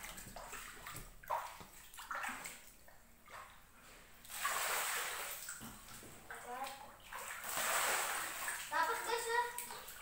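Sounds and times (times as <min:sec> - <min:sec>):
bare feet splashing in water: 0:00.0 - 0:03.6, 0:04.2 - 0:10.0.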